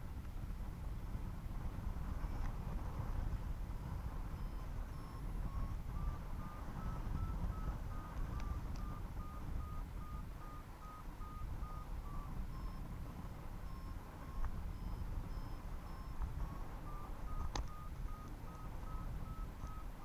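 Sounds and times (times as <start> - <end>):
wind on microphone: 0.0 - 20.0
variometer beeping: 2.1 - 20.0.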